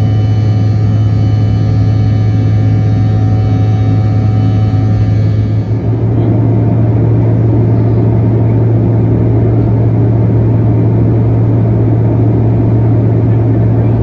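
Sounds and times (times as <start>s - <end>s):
jet engine cabin noise: 0.0s - 14.0s.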